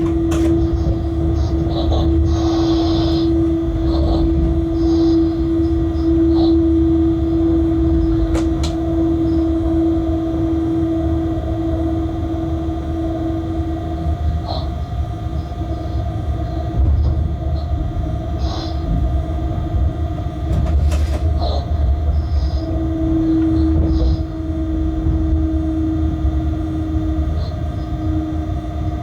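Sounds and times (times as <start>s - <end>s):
locomotive low rumble: 0.0s - 29.0s
strong constant equipment hum: 0.0s - 29.0s.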